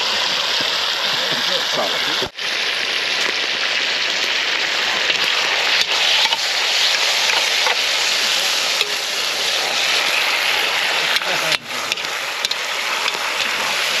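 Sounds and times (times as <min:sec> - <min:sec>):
faint fire crackles: 0:00.0 - 0:14.0
food sizzling in a pot: 0:00.0 - 0:14.0.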